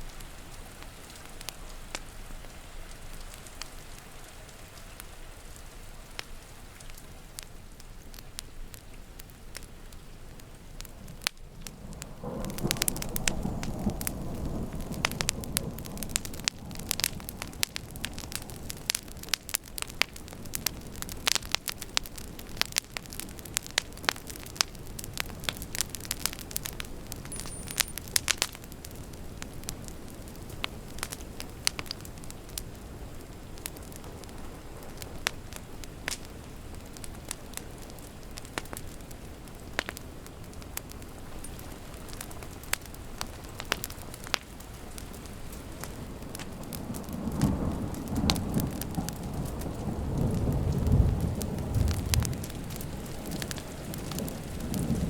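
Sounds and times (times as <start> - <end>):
steady rain: 0.0 - 55.0
wood fire crackling and popping: 0.0 - 55.0.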